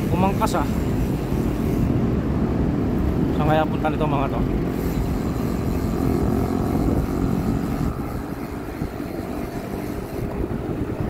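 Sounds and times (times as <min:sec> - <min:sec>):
street traffic: 0:00.0 - 0:11.0
wind rumbling on microphone: 0:00.0 - 0:11.0.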